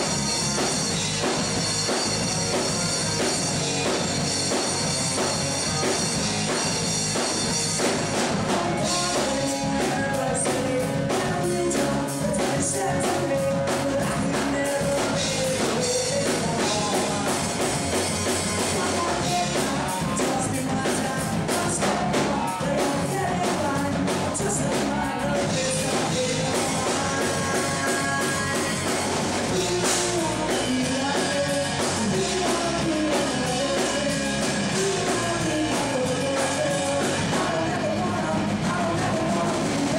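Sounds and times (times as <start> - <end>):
drum kit: 0.0 - 39.9
guitars: 0.0 - 39.9
person singing: 0.0 - 39.9.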